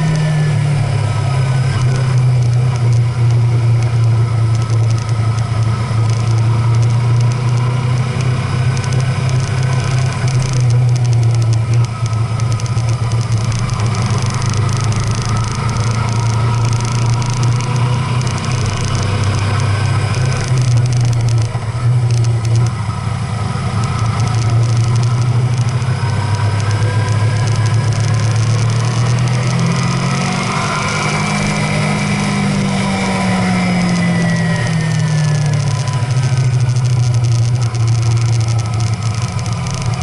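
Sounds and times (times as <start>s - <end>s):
road and wind noise: 0.0s - 40.0s
vehicle engine droning: 0.0s - 40.0s.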